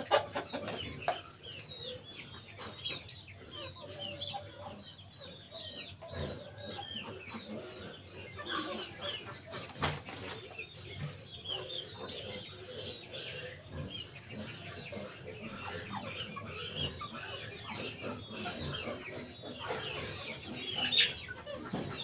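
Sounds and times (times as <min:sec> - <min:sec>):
chicks peeping: 0:00.0 - 0:22.0
hen clucking: 0:00.0 - 0:22.0.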